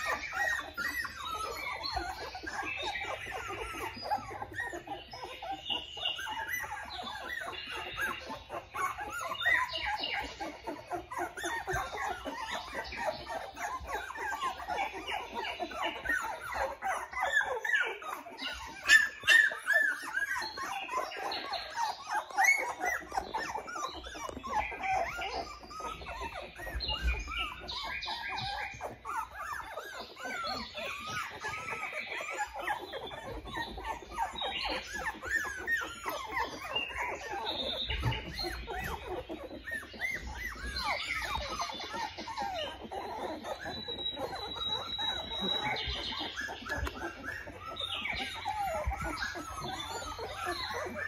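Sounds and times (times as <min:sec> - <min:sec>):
puppies squeaking and whining: 0:00.0 - 0:51.0.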